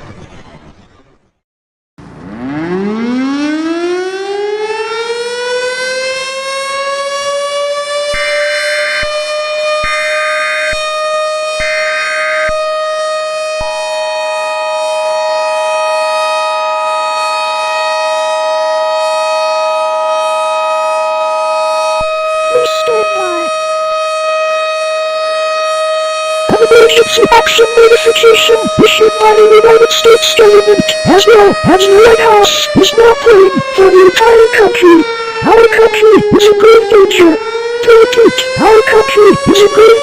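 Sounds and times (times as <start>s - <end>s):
civil defense siren wailing: 2.0s - 40.0s.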